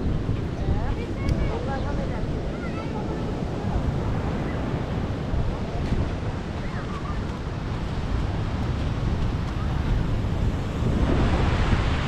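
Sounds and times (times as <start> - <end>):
sea waves washing onto beach: 0.0 - 12.0
wind rumbling on microphone: 0.0 - 12.0.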